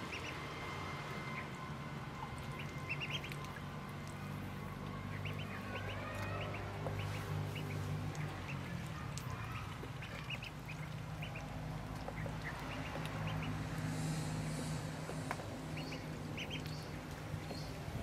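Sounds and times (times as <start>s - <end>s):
ducklings peeping: 0.0s - 0.5s, 1.1s - 1.6s, 2.2s - 18.0s.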